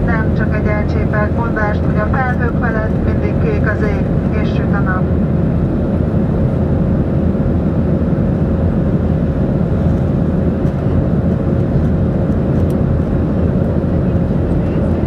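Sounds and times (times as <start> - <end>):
aircraft engine rumble: 0.0 - 15.0.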